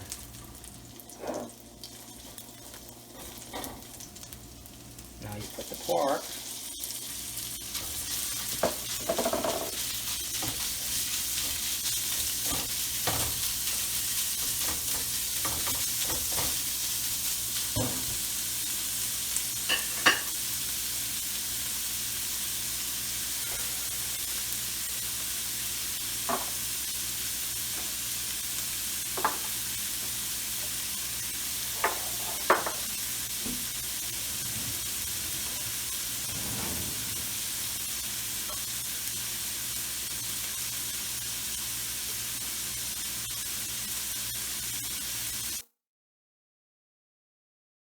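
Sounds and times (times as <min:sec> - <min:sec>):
meat sizzling in hot oil: 0:00.0 - 0:45.6.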